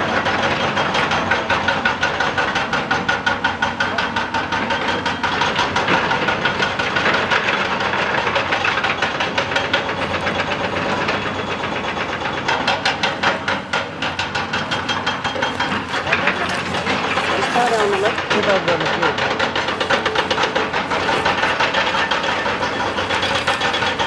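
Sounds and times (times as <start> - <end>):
hydraulic breaker hammering rock: 0.0 - 24.0
machine engine running: 0.1 - 24.0.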